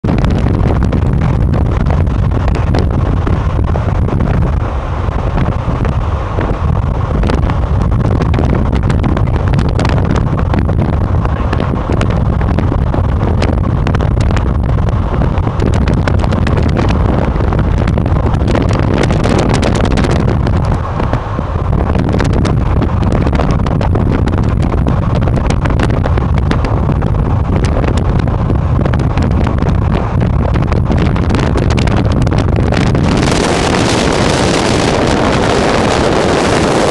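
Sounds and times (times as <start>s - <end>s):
car road and engine noise: 0.0s - 36.9s
wind buffeting on microphone: 0.0s - 36.9s.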